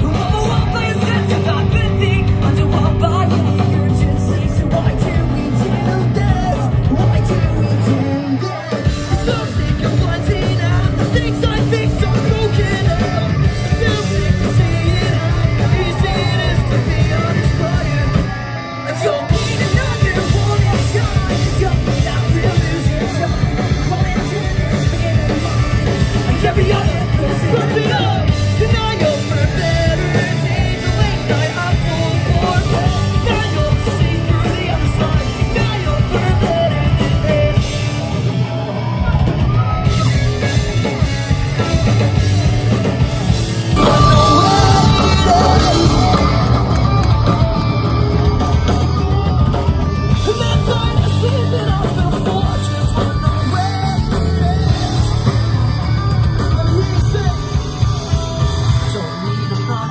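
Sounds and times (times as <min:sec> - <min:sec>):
electric guitars: 0:00.0 - 0:59.9
live pop-punk band playing: 0:00.0 - 0:59.9
sung vocals: 0:00.0 - 0:59.9.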